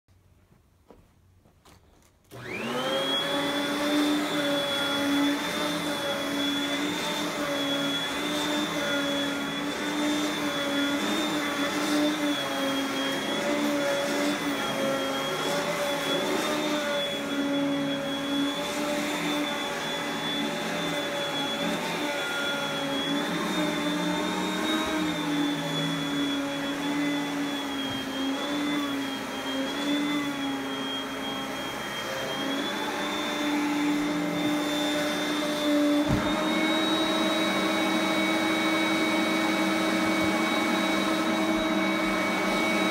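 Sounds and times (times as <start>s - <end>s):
vacuum cleaner running: 2.3s - 42.9s.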